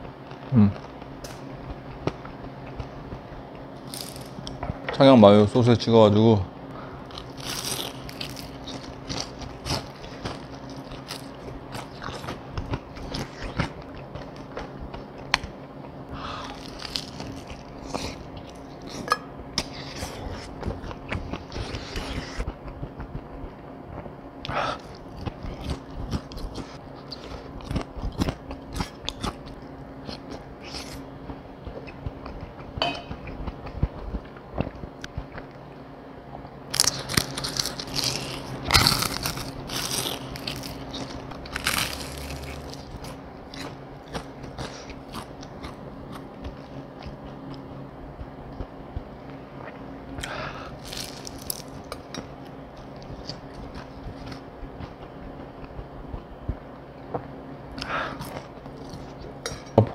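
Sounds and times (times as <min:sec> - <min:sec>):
faint steady hum: 0:00.0 - 0:59.9
chewing crispy chicken: 0:03.8 - 0:04.6, 0:07.0 - 0:19.0, 0:19.6 - 0:35.6, 0:36.7 - 0:59.5.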